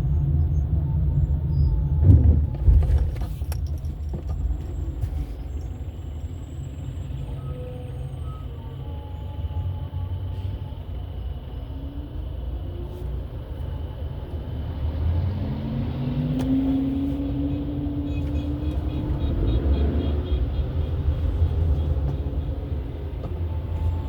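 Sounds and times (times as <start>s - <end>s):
car road rumble: 0.0s - 24.0s.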